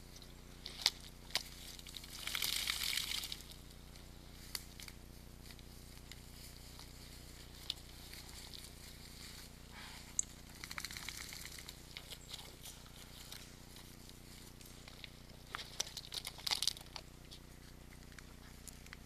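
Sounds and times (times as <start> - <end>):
hooves stepping through twigs: 0.0 - 19.0.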